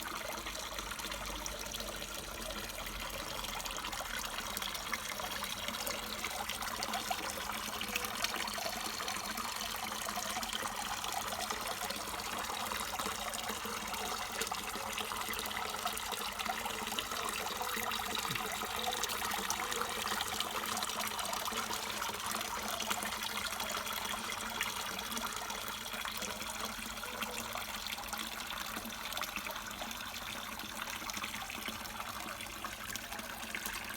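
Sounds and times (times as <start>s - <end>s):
water trickling into a pond: 0.0s - 33.9s.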